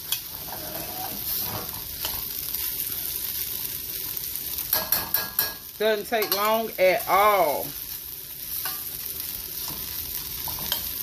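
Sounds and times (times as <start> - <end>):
corn sizzling in a pan: 0.0 - 11.0.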